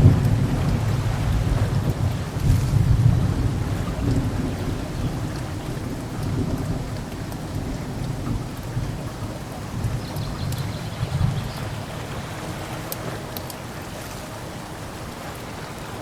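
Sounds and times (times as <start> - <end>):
low rolling thunder: 0.0 - 13.8
steady rain: 0.0 - 16.0.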